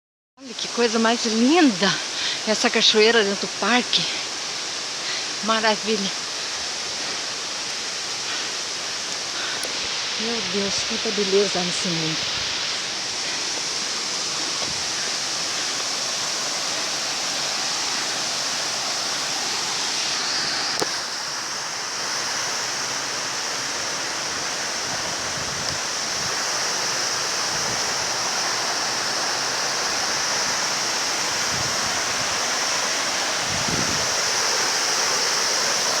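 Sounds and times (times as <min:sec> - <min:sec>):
waterfall rushing: 0:00.6 - 0:36.0.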